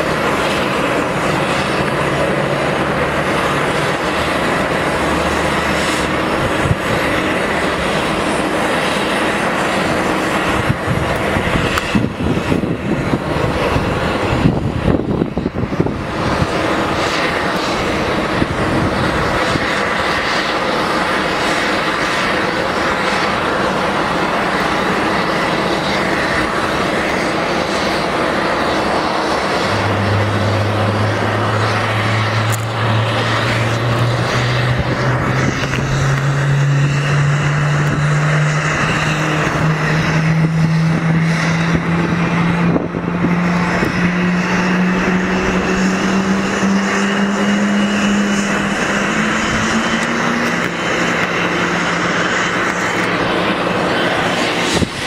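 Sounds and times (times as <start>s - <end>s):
jet aircraft rushing hiss: 0.0s - 55.0s
jet engine spooling up: 0.0s - 55.0s.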